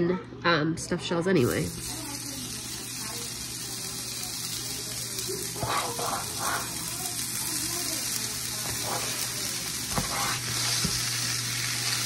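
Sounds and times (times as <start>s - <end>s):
sausage and onion sizzling in skillet: 1.4s - 12.0s.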